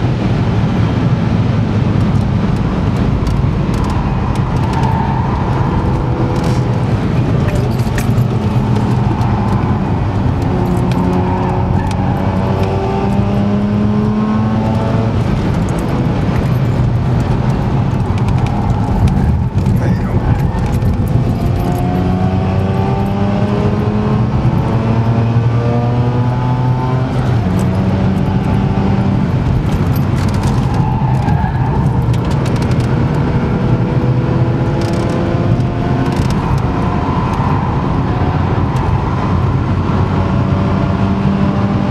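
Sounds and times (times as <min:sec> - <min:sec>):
road and wind noise: 0:00.0 - 0:41.9
rotary engine accelerating: 0:00.7 - 0:41.9.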